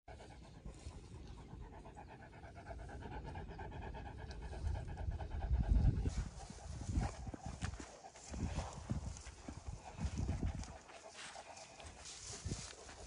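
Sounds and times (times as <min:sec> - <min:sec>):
dog panting rapidly: 0:00.1 - 0:13.0.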